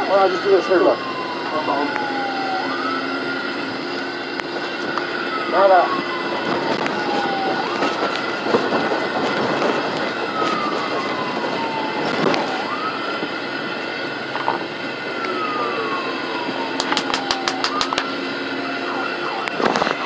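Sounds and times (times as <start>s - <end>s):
ambulance siren wailing: 0.0s - 20.0s
engine and road noise: 0.0s - 20.0s.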